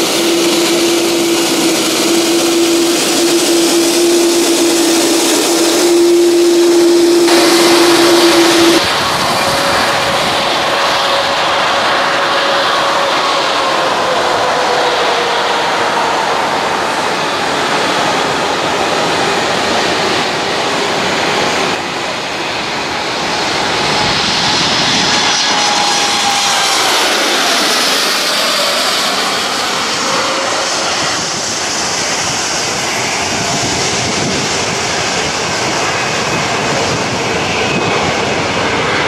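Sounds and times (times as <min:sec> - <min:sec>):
jet engine roar: 0:00.0 - 0:39.0
jet engine whine: 0:00.0 - 0:39.0.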